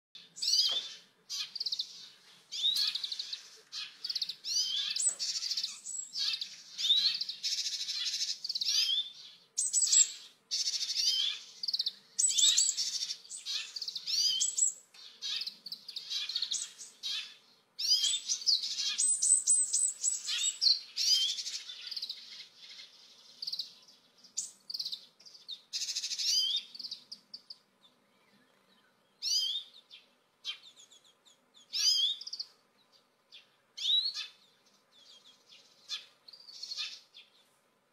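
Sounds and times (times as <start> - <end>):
bird twittering chirps and trills: 0.2 - 37.6.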